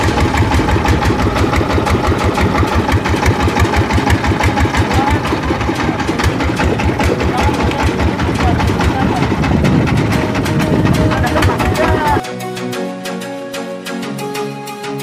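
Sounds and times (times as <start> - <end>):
boat engine running: 0.0 - 12.2.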